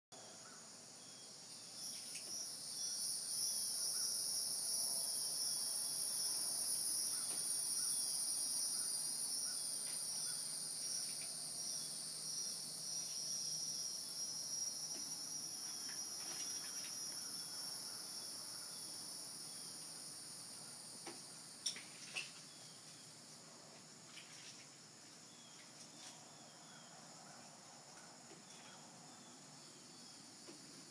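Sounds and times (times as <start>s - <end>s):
insects droning chorus: 0.2s - 30.9s.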